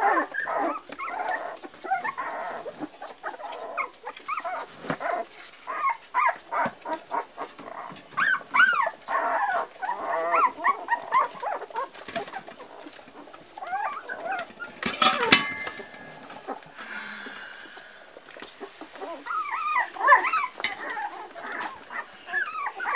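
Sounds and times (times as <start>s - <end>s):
puppies squealing: 0.0s - 22.9s.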